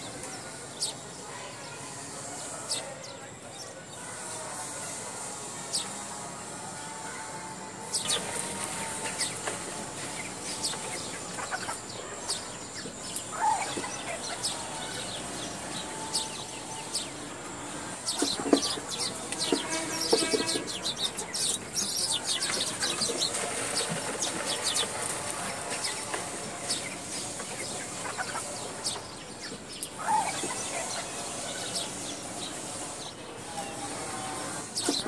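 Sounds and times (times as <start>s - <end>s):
birds clucking and chirping: 0.0s - 35.0s.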